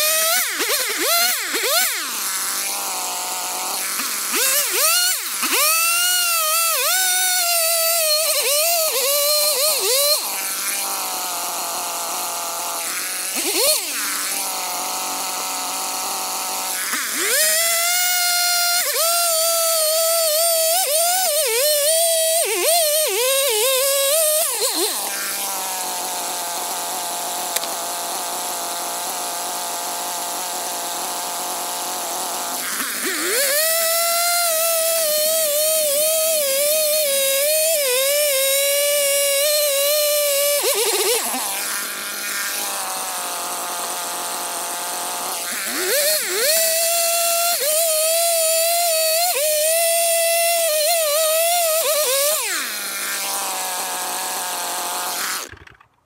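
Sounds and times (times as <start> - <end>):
chainsaw cutting wood: 0.0 - 56.0
chainsaw idling: 0.0 - 56.0.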